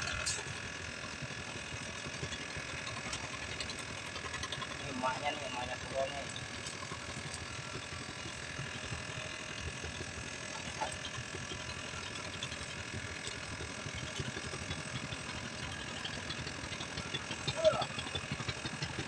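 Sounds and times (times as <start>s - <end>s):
engine hum: 0.0s - 19.0s.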